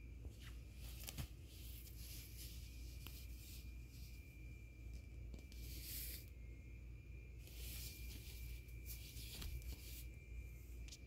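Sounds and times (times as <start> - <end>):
faint steady high tone: 0.0 - 11.0.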